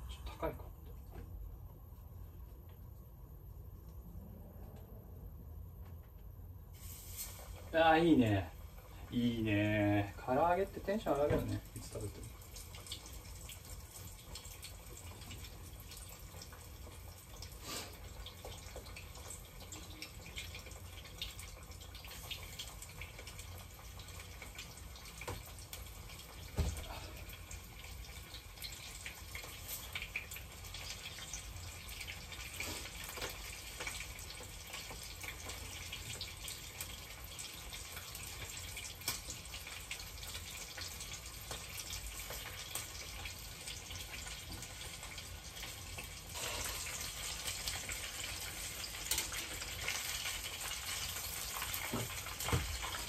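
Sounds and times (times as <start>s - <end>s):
chicken deep-frying in oil: 0.0s - 4.6s, 6.3s - 53.0s.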